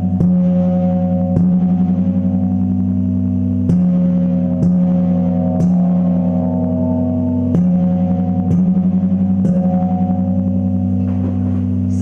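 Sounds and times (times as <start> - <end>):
large gong ringing: 0.0 - 12.0.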